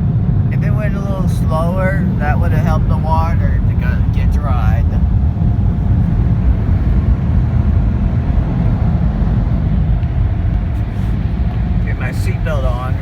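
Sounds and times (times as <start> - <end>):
muffled air dryers blowing: 0.0 - 13.0.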